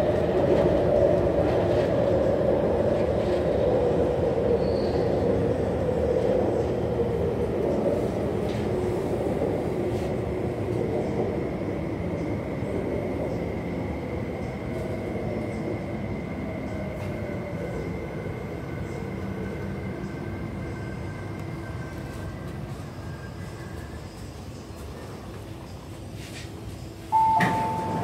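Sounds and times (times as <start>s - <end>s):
train wheel and motor rumble: 0.0s - 28.0s.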